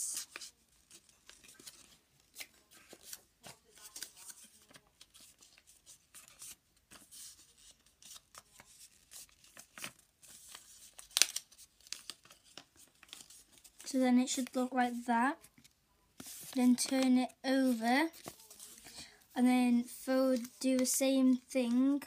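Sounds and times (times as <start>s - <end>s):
paper being folded: 0.0s - 15.1s, 16.2s - 18.9s, 20.0s - 22.0s.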